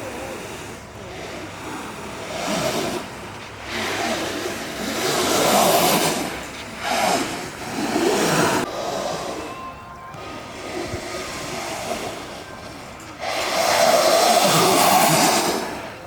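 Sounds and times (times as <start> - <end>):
wheels rolling on pavement: 0.0 - 16.0.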